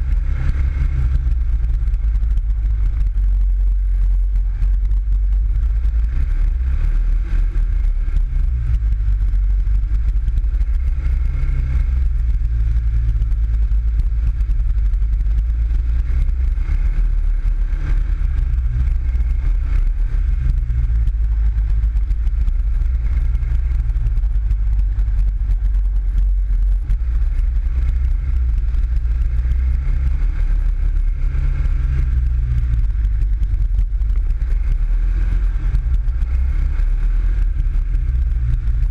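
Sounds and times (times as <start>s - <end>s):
buggy engine droning: 0.0s - 38.9s.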